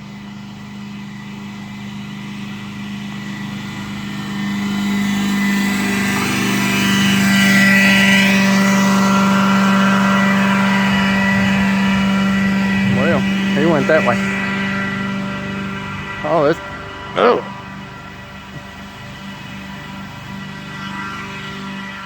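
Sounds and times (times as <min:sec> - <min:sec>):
fogging truck engine and blower drone: 0:00.0 - 0:22.0.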